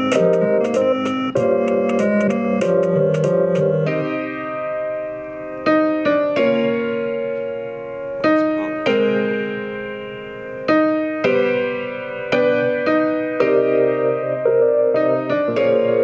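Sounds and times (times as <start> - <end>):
piano-like keyboard chords: 0.0 - 16.0.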